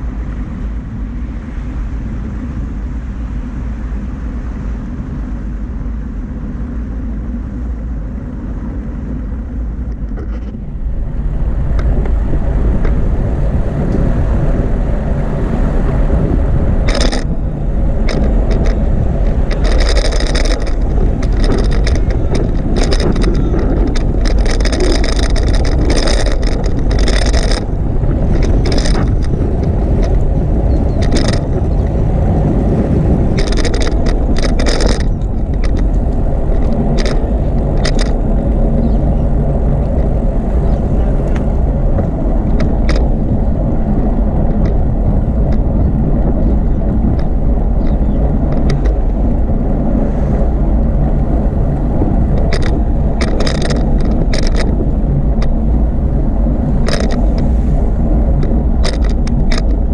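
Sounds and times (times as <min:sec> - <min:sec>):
wind rumbling on microphone: 0:00.0 - 0:59.9
bicycle clicks and rattles: 0:08.6 - 0:59.9.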